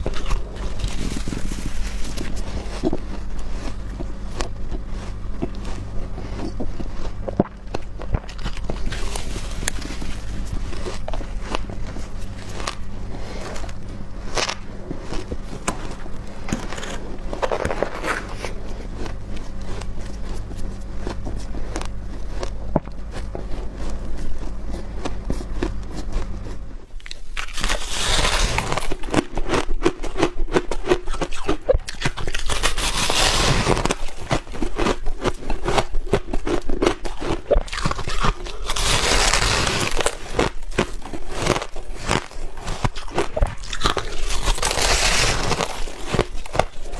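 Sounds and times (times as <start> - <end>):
crunching of frost ice: 0.0 - 46.9
low steady hum: 0.0 - 46.9.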